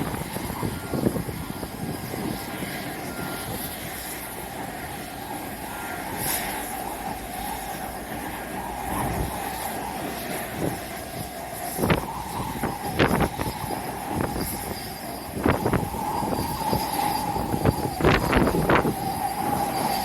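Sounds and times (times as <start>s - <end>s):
jet engines whining: 0.0s - 20.0s
wind buffeting microphone: 0.0s - 20.0s.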